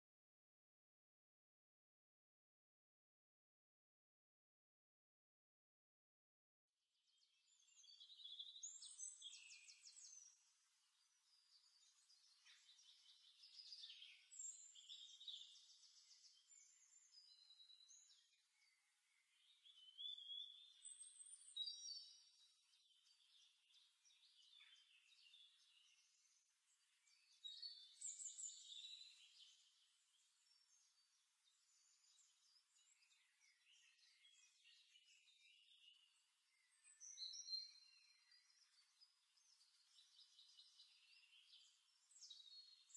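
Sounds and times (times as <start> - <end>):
faint birdsong: 6.9 - 42.9.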